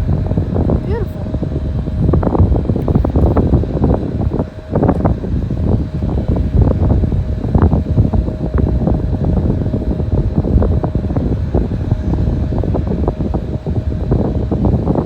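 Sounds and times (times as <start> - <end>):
faint steady whine: 0.0 - 15.0
wind buffeting microphone: 0.0 - 15.0.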